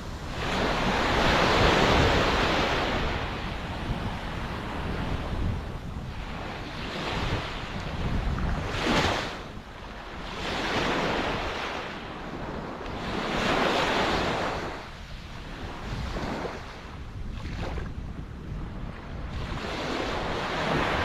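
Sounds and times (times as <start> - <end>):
waves breaking on shore: 0.0 - 18.0, 18.6 - 21.0.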